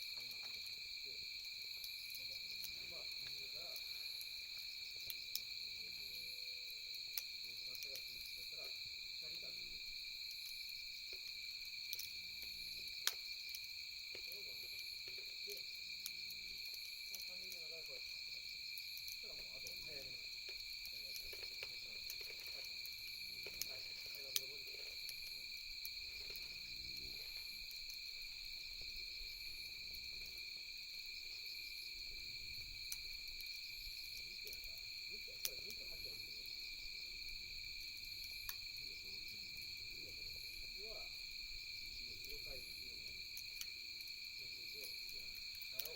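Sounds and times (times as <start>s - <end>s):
campfire pops and crackles: 0.0s - 45.9s
night insects trilling: 0.0s - 45.9s.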